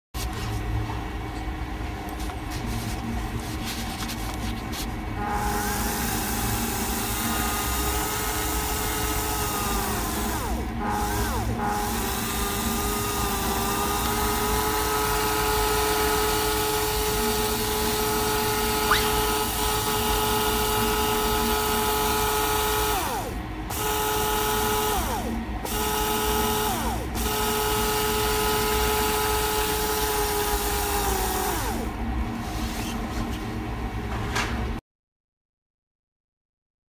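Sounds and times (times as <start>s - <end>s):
geared motor whine: 0.2s - 34.0s.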